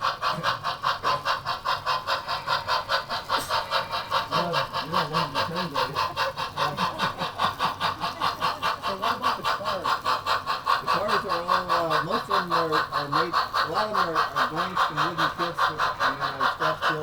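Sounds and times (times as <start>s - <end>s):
model train chuffing: 0.0s - 17.0s.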